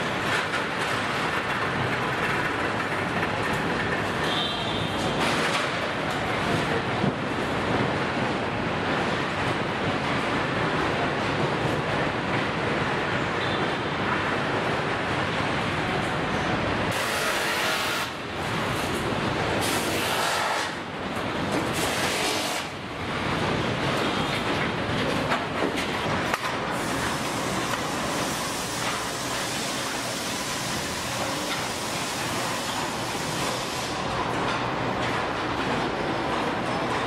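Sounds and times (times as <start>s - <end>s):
machinery and conveyors running: 0.0s - 37.0s.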